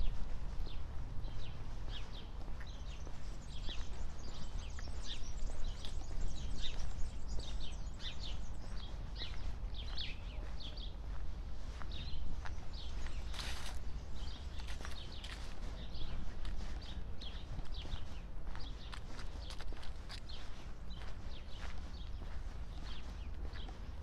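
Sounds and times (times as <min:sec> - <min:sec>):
footsteps on gravel: 0:00.0 - 0:24.0.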